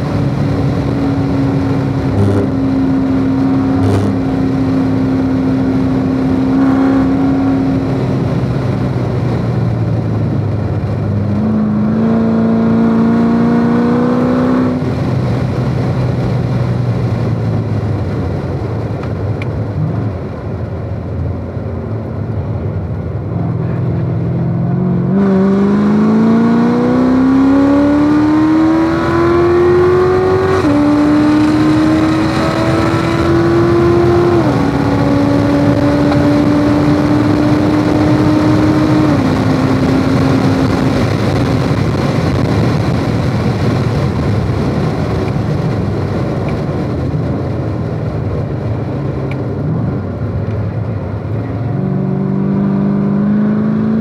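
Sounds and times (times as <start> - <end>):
car engine at full throttle: 0.0 - 54.0
wind noise: 0.0 - 54.0.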